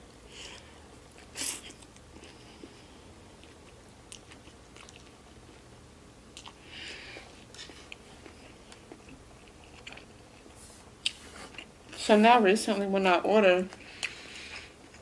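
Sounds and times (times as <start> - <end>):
person chewing food: 0.3 - 5.7, 6.3 - 12.1, 13.7 - 15.0.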